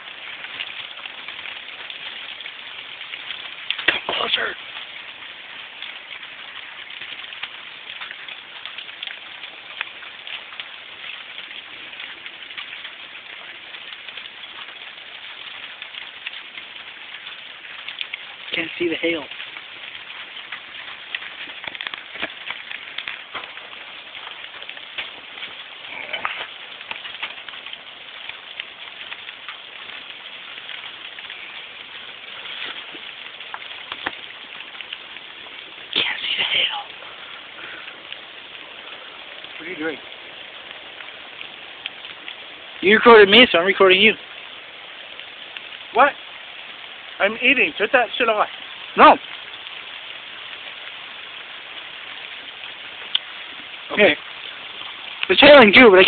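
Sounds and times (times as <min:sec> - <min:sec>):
hail and rain pattering: 0:00.0 - 0:56.0.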